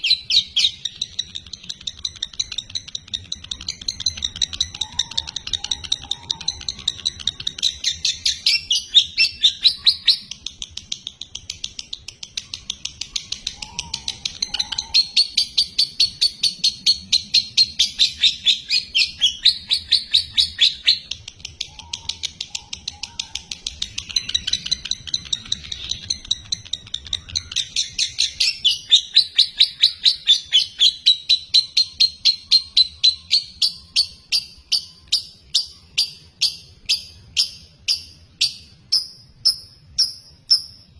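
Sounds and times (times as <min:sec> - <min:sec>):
lovebird chirping: 0:00.0 - 0:40.9.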